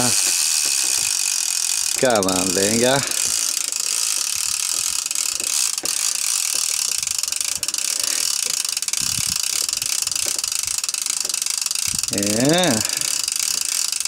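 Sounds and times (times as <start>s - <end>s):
fishing reel drag buzzing: 0.0s - 14.0s.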